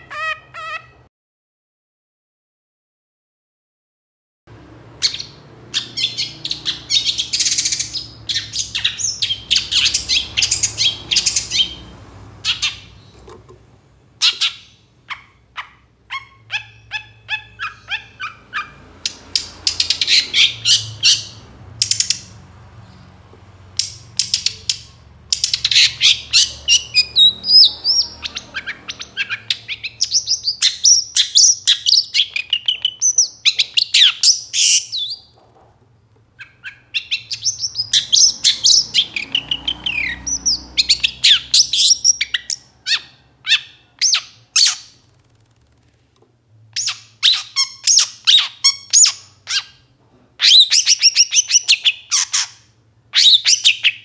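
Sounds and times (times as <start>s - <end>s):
bird singing harsh chattering: 5.0s - 13.3s, 14.2s - 23.1s, 23.7s - 35.4s, 36.4s - 45.3s, 46.8s - 54.0s.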